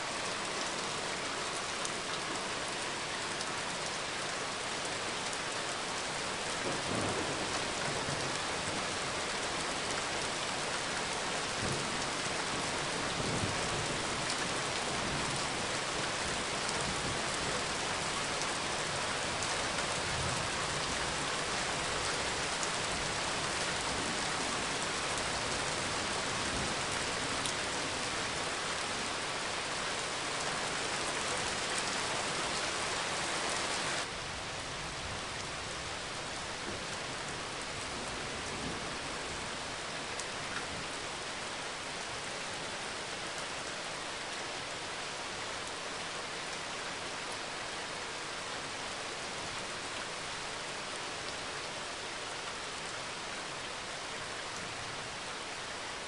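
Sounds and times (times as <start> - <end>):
heavy rain on hard surfaces: 0.0 - 56.0.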